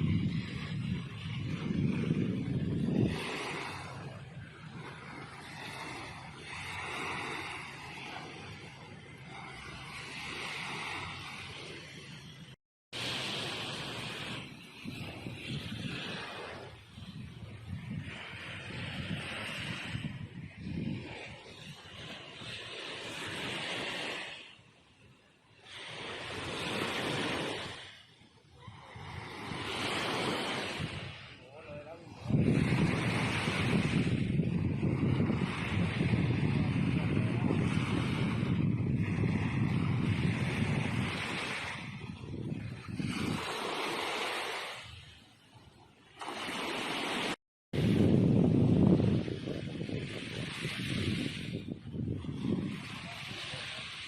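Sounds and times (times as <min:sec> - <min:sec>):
wind buffeting microphone: 0:00.0 - 0:22.6, 0:28.5 - 0:45.4, 0:46.5 - 0:54.0
waves washing onto a beach: 0:00.0 - 0:54.0.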